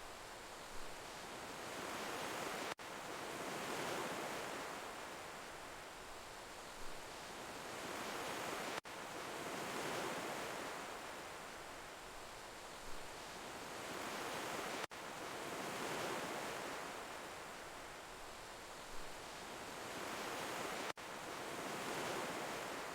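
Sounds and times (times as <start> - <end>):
ocean waves washing on shore: 0.0 - 22.9.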